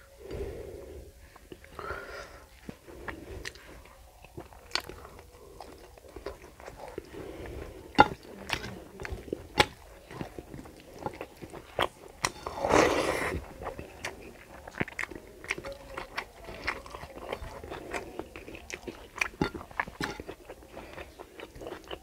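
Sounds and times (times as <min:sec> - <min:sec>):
person chewing food: 0:01.2 - 0:22.0.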